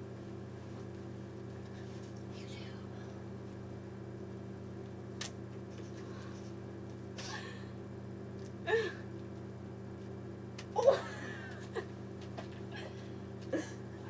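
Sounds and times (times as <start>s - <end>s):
low room tone hum: 0.0s - 14.0s.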